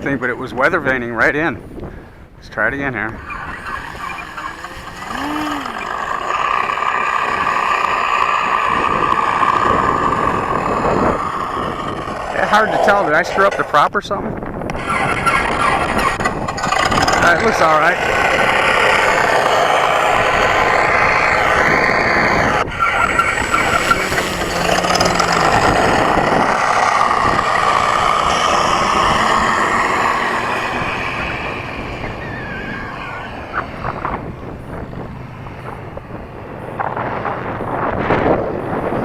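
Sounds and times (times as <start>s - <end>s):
simulated engine sound from speaker: 2.4s - 39.0s
model plane motor and propeller: 3.0s - 39.0s.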